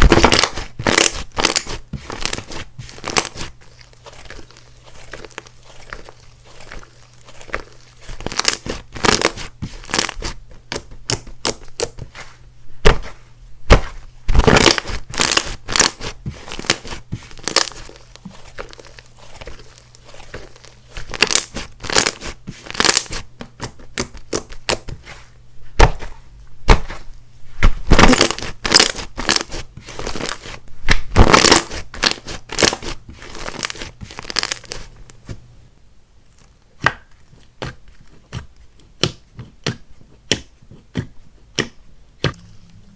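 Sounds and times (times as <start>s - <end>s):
hands squishing slime: 0.0s - 35.4s, 36.7s - 42.9s.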